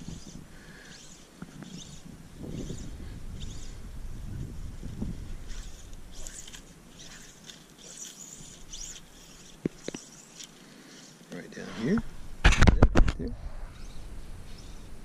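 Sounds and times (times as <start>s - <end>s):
fly line scratchy rustles: 0.0s - 15.0s.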